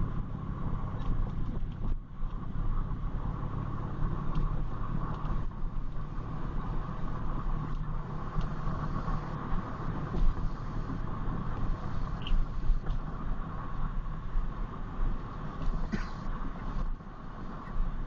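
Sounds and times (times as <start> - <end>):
car engine and road rumble: 0.0 - 18.0
mid-pitched hum: 0.0 - 18.0.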